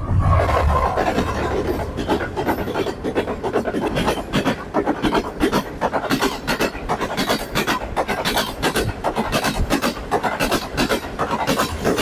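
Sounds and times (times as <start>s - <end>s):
train wheels clattering on track: 0.2s - 12.0s.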